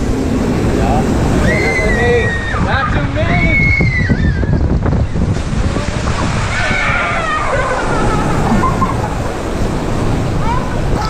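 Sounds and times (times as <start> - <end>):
water rushing and sloshing: 0.0 - 11.0
wind buffeting microphone: 0.0 - 11.0.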